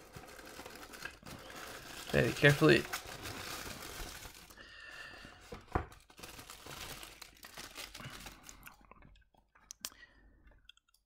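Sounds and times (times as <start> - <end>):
plastic wrapping crinkling: 0.0 - 8.9.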